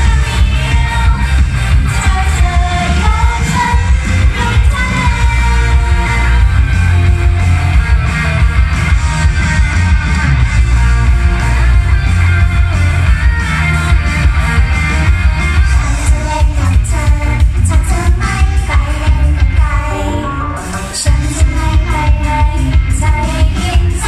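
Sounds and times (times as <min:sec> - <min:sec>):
pop song over speakers: 0:00.0 - 0:24.0.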